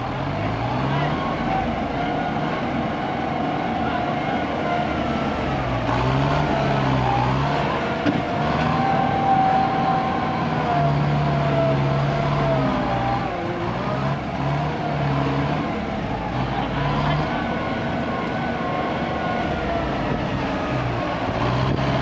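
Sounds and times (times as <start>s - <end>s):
heavy diesel truck engines: 0.0s - 22.0s
high engine whine: 0.0s - 22.0s.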